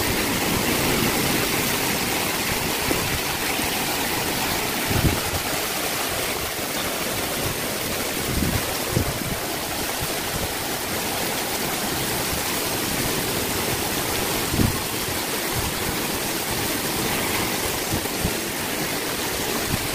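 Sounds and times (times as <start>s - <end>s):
heavy rain pouring: 0.0s - 19.9s.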